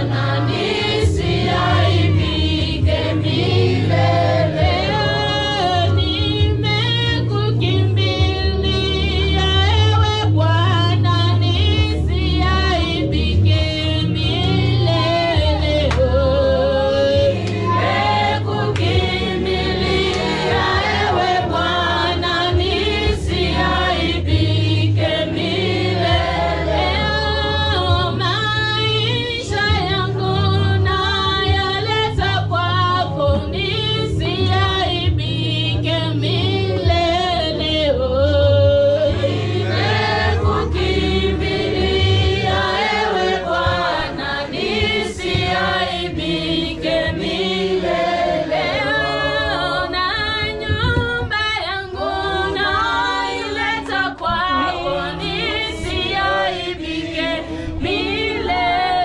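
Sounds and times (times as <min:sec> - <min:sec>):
choir singing: 0:00.0 - 0:09.8, 0:10.6 - 0:38.0, 0:38.7 - 0:50.9, 0:51.5 - 0:59.0
low musical backing: 0:00.0 - 0:59.0.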